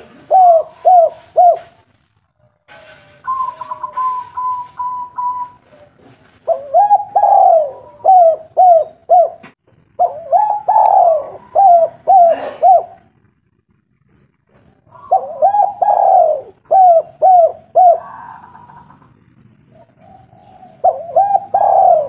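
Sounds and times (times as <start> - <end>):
dove cooing: 0.0 - 1.8, 3.3 - 13.1, 14.6 - 22.0.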